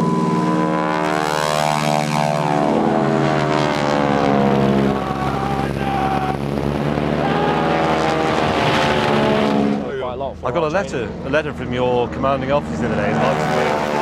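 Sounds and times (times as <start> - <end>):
propeller aircraft flying past: 0.0 - 14.0.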